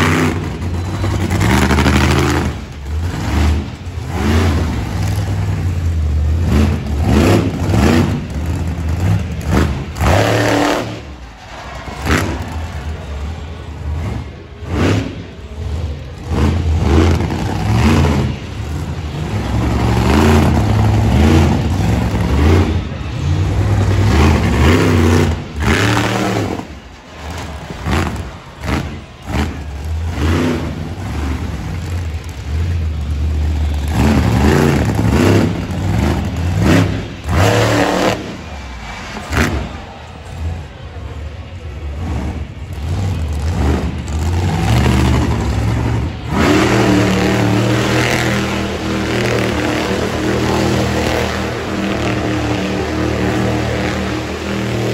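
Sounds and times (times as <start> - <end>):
truck engine revving hard: 0.0 - 54.9.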